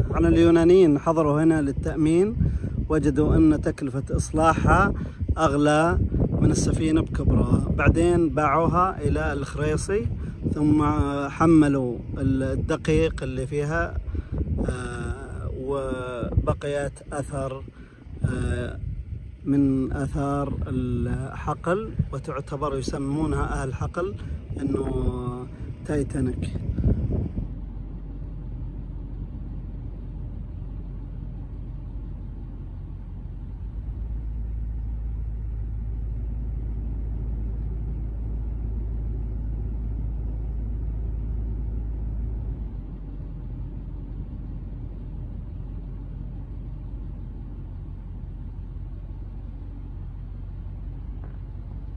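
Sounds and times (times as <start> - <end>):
low bass rumble: 0.0 - 51.9.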